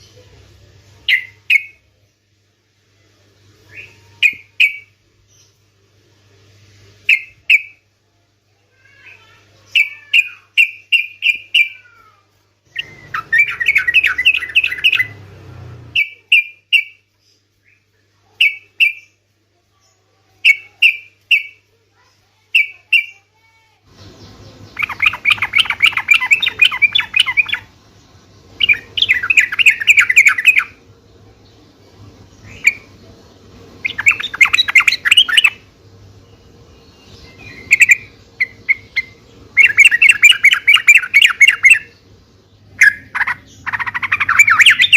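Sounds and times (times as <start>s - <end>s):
bulbul song chirps and chatter: 0.0s - 44.9s
faint steady hum: 0.0s - 44.9s.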